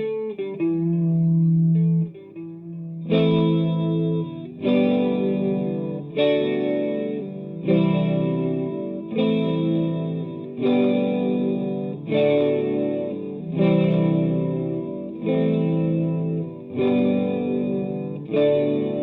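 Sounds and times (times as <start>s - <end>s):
electric guitar chords: 0.0s - 19.0s.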